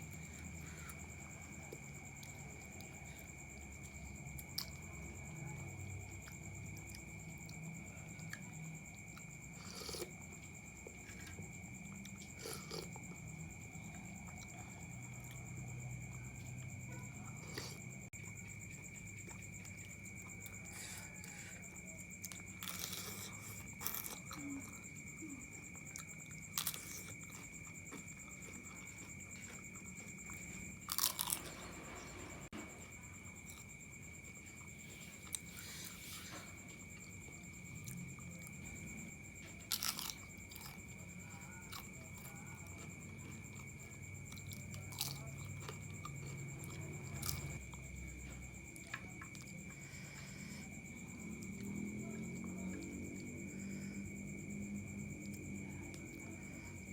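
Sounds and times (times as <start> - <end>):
person chewing food with crunches: 0.0 - 56.9.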